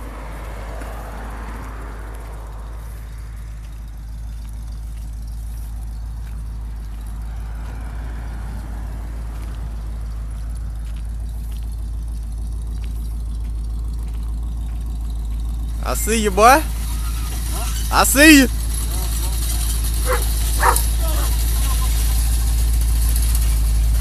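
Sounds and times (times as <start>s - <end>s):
passing car tyre noise: 0.0s - 24.0s
pickup truck engine rumbling: 0.0s - 24.0s.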